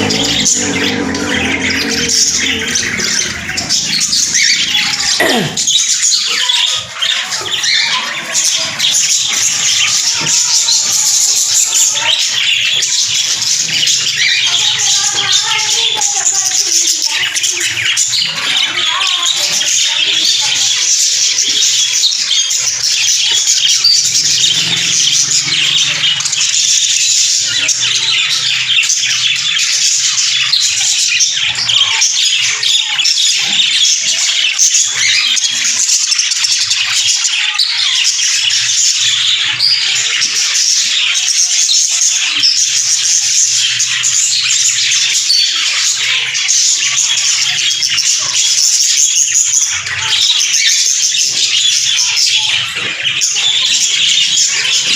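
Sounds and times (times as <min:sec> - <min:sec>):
parrots chattering and squawking: 0:00.0 - 0:54.9.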